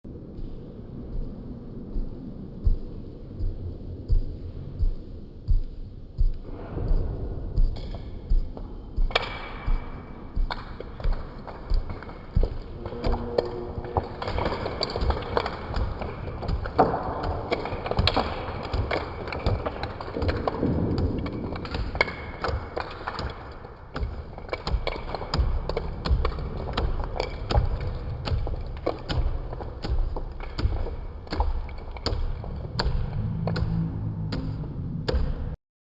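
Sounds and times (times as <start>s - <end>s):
regular thumps: 0.1s - 35.6s.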